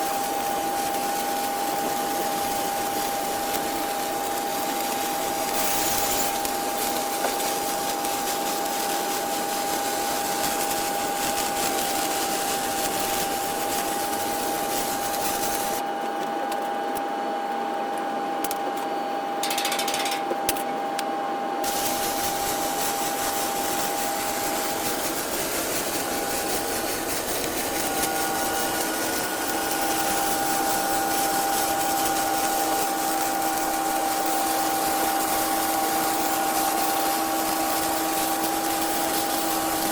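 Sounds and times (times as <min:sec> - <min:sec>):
welding arc hissing: 0:00.0 - 0:15.8, 0:21.6 - 0:39.9
welding machine hum: 0:00.0 - 0:17.1, 0:18.4 - 0:20.7, 0:21.6 - 0:39.9.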